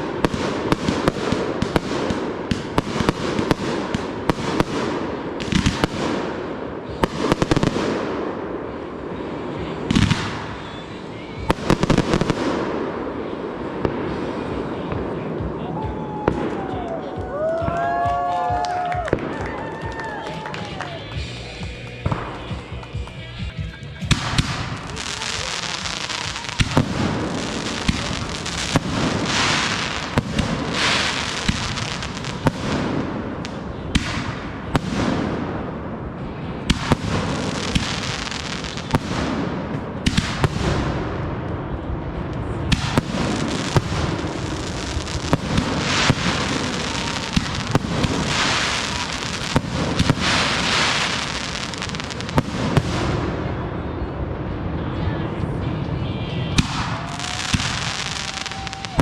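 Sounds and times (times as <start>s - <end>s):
sharp firework reports: 0.0s - 15.7s, 24.0s - 54.7s, 56.4s - 59.0s
fireworks bursting and crackling: 0.0s - 59.0s.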